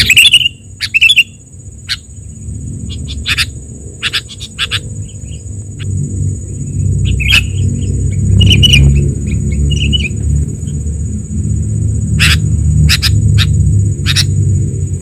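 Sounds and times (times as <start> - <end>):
bird chirping: 0.0 - 14.5
high-pitched whine: 0.0 - 15.0
low rumble: 2.2 - 15.0.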